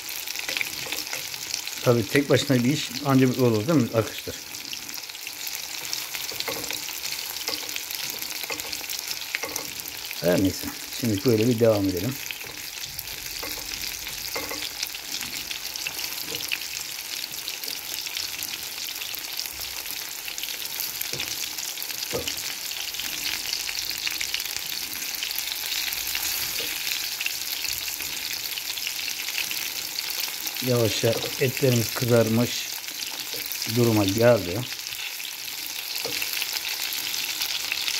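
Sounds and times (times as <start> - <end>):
meat sizzling in oil: 0.0 - 37.9.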